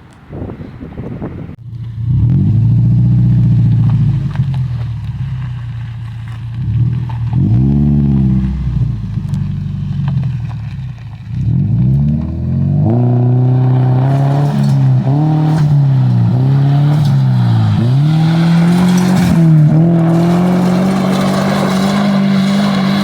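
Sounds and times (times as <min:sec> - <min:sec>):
car engine revving: 0:01.7 - 0:23.0.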